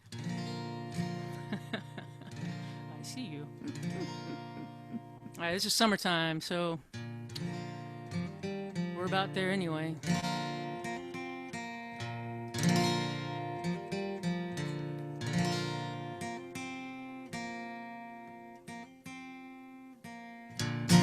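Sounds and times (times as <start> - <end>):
acoustic guitar strumming and picking: 0.0 - 21.0.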